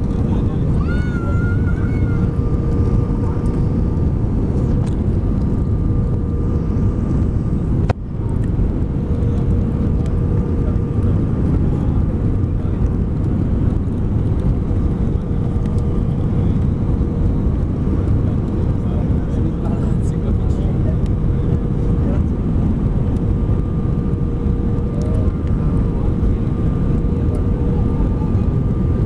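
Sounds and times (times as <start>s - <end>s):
airliner engine rumble: 0.0s - 29.0s.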